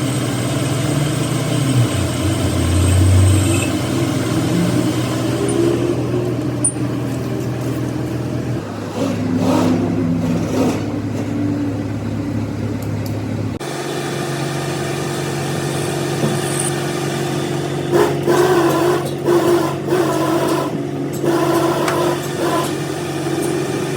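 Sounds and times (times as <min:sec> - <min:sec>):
machinery humming: 0:00.0 - 0:23.9.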